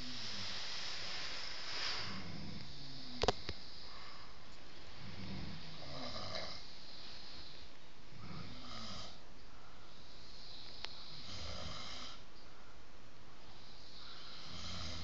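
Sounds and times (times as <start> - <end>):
low snoring: 0.0 - 4.3, 4.9 - 9.2, 10.1 - 12.3, 13.6 - 15.0.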